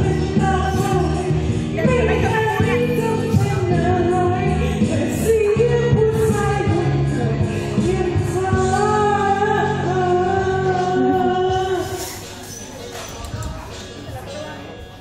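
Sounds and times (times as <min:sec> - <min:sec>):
person singing into microphone: 0:00.0 - 0:12.6
backing music: 0:00.0 - 0:15.0.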